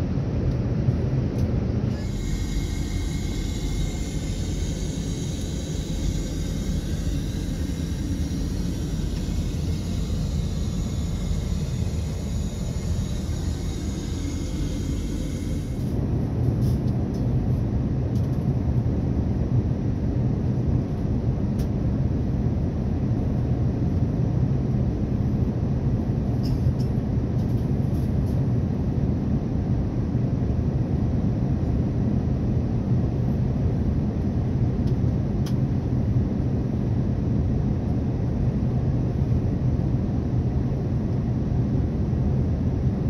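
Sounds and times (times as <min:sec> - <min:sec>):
aircraft cabin engine rumble: 0:00.0 - 0:43.0.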